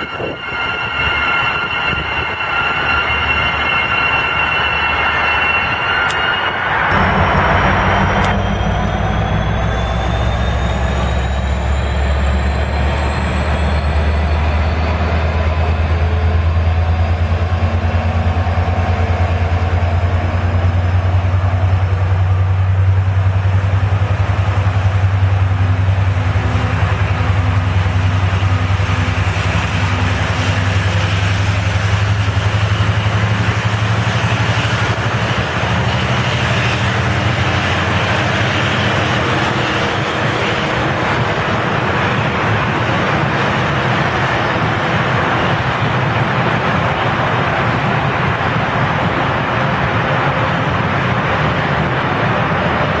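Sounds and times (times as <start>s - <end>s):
high whine: 0.0s - 53.0s
locomotive engine hum: 0.0s - 53.0s.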